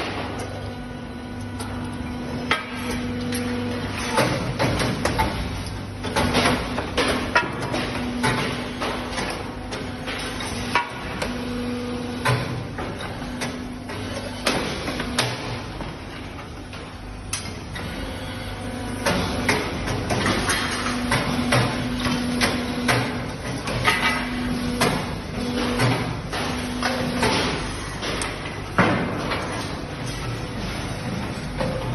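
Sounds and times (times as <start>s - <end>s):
machine hum: 0.0s - 31.9s.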